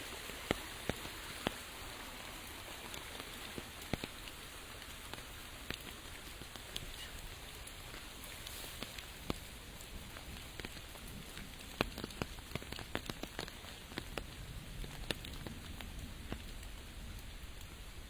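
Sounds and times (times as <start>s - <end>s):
raindrops tapping close by: 0.0s - 18.0s
steady rain: 0.0s - 18.0s.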